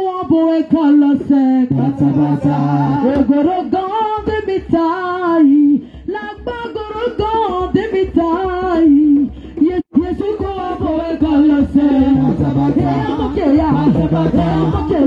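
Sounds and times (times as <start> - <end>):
amplified worship singing: 0.0 - 15.0.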